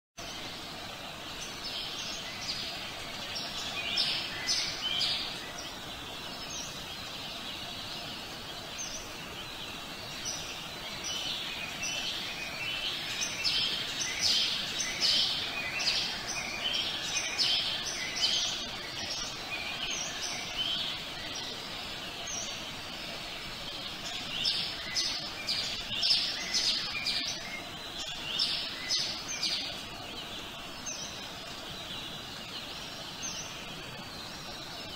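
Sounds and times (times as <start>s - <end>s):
outdoor background hiss: 0.2s - 34.9s
songbirds chirping: 0.2s - 34.9s.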